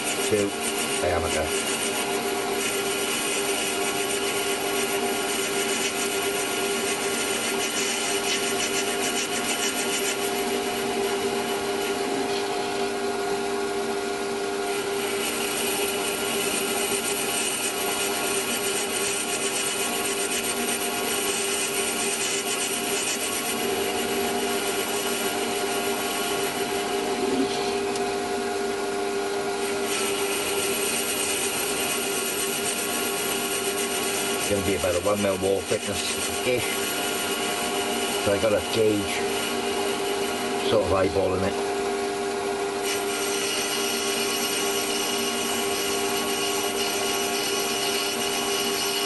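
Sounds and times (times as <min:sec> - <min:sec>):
lathe machine hum: 0:00.0 - 0:49.0.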